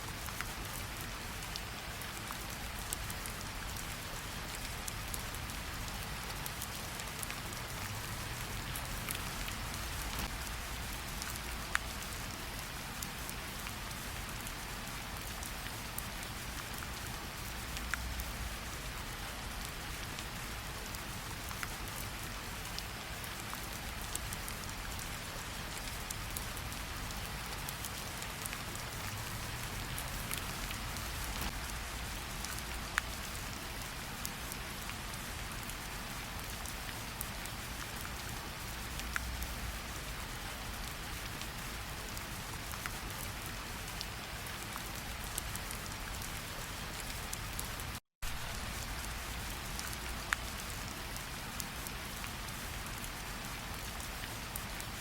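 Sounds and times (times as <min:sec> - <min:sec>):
steady rain with ticking drops: 0:00.0 - 0:55.0.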